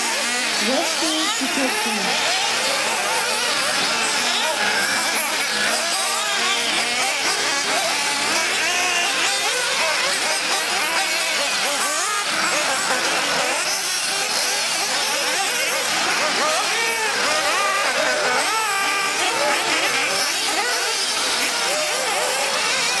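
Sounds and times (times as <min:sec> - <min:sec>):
rc buggy engines whining: 0:00.0 - 0:23.0.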